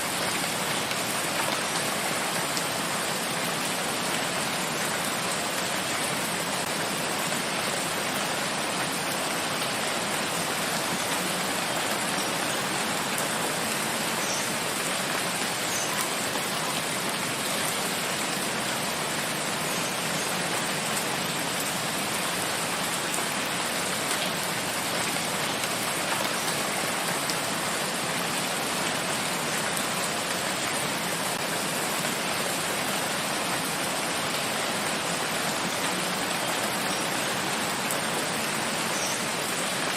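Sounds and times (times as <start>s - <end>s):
rain falling on a forest: 0.0s - 39.9s.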